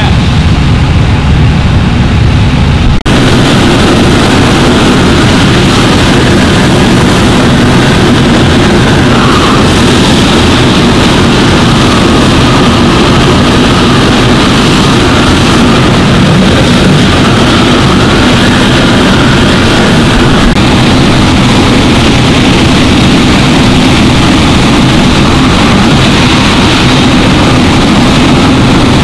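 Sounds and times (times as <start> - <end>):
diesel engine and pump running: 0.0 - 29.0
fire hose spraying water: 2.4 - 29.0.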